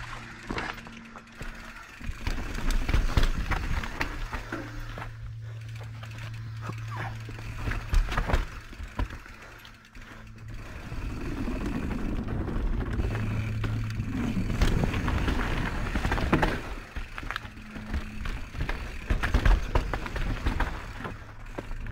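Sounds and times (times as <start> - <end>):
bike knocking and rattling: 0.0 - 21.9
bike tyres rumbling over dirt: 0.0 - 21.9.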